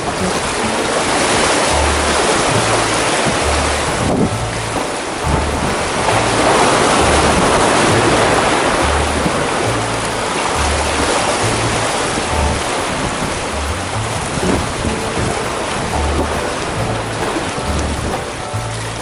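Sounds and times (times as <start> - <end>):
background music with bass line: 0.0 - 19.0
sea waves surging against concrete: 0.0 - 19.0.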